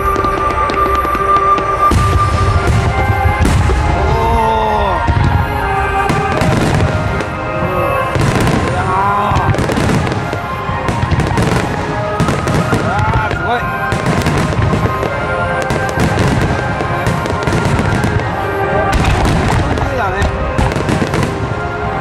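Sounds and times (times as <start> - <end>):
fireworks booming and crackling: 0.0 - 22.0
music playing: 0.0 - 22.0.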